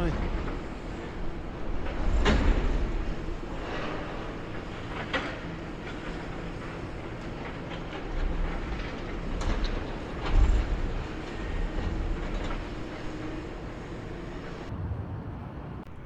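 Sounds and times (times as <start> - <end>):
machine knocks and clanks: 0.0 - 14.7
wind buffeting microphone: 0.0 - 16.0.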